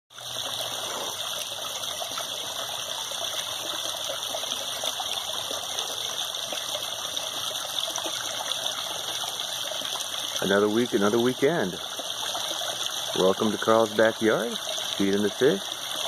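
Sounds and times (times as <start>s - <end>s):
water trickling into a pond: 0.1s - 16.0s.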